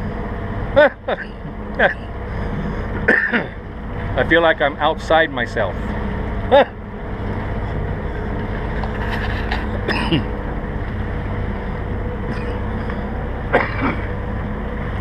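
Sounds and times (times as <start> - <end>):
boat motor running: 0.0 - 15.0
wind: 0.0 - 15.0.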